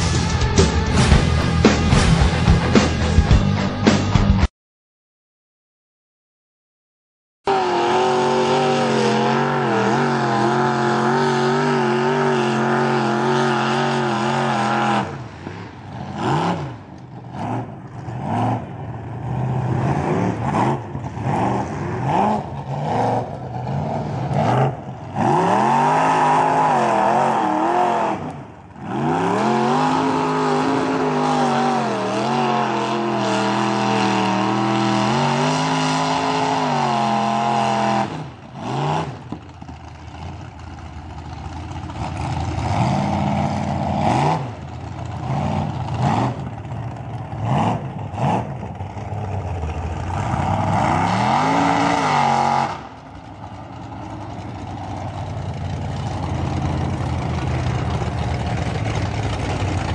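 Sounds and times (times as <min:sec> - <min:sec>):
truck engine revving: 0:00.0 - 0:04.5, 0:07.5 - 0:59.9.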